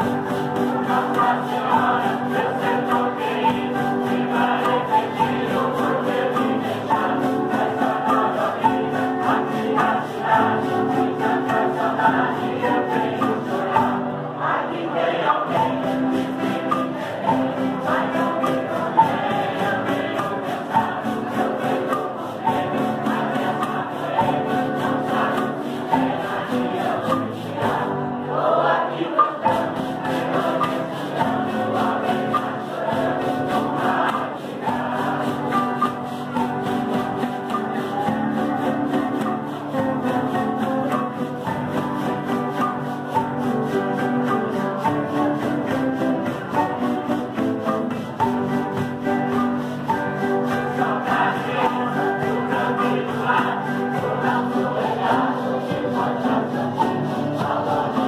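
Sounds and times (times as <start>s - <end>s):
cajon beat: 0.0s - 58.0s
group singing together: 0.0s - 58.0s
strummed acoustic guitars: 0.0s - 58.0s.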